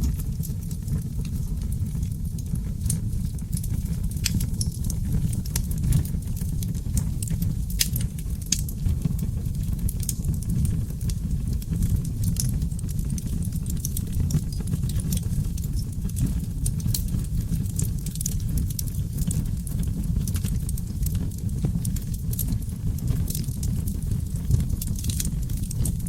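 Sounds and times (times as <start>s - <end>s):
burning logs crackling and popping: 0.0s - 26.0s
flames rumbling: 0.0s - 26.0s.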